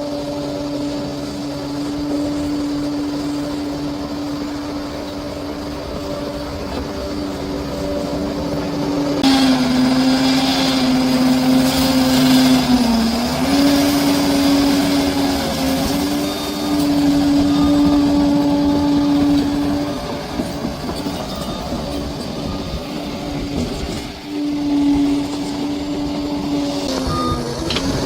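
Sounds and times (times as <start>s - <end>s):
bulldozer diesel engine under load: 0.0s - 28.0s.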